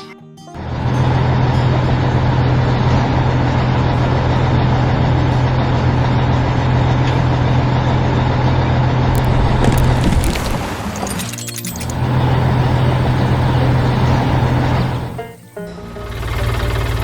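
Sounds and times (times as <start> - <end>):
heavy vehicle engine humming: 0.6 - 11.2, 11.8 - 17.0.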